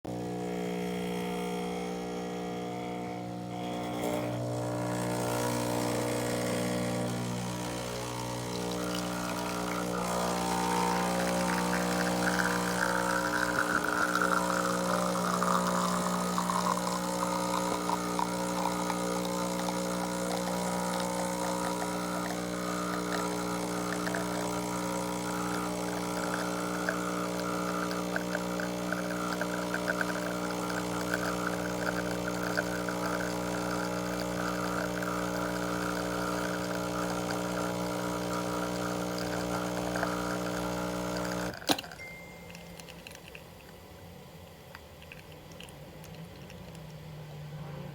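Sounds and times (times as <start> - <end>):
espresso machine pump humming: 0.1 - 47.5
coffee trickling and hissing: 5.1 - 44.0, 44.6 - 47.5.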